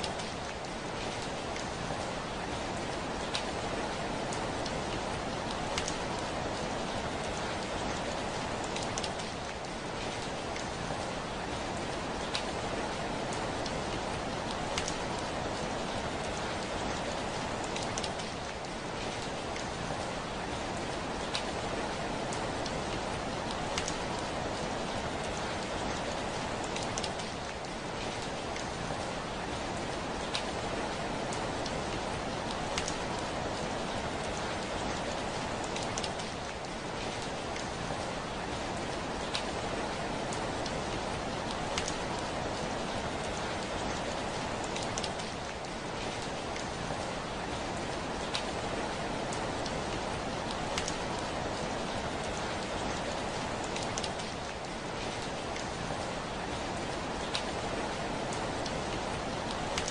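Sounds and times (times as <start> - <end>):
rain on a window pane: 0.0 - 59.9.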